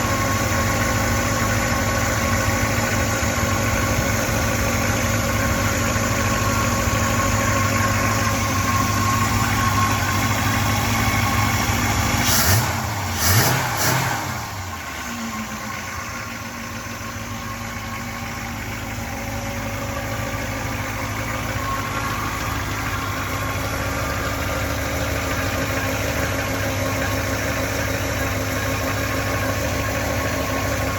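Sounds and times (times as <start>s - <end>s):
car engine idling and revving: 0.0s - 30.9s.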